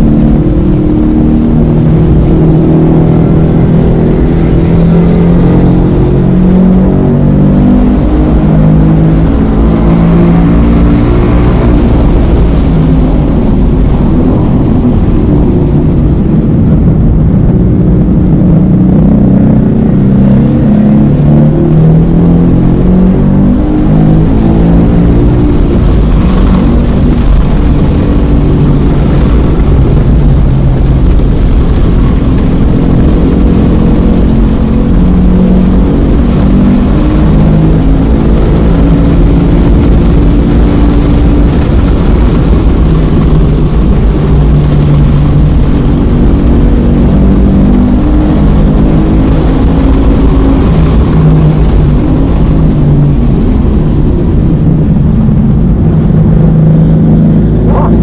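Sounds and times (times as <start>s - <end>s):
sports car engine revving hard: 0.0s - 58.0s
wind and tyre noise: 0.0s - 58.0s.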